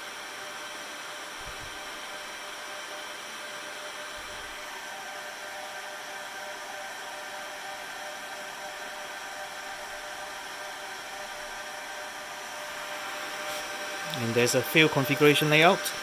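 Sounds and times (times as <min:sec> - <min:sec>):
server cooling fans whirring: 0:00.0 - 0:16.0.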